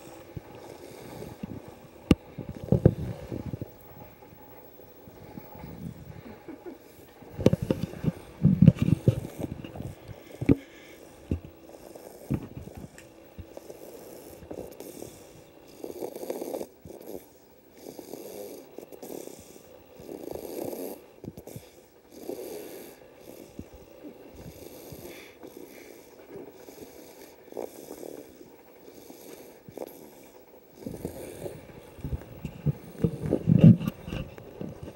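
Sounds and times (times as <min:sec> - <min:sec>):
person snoring: 0:05.2 - 0:34.2.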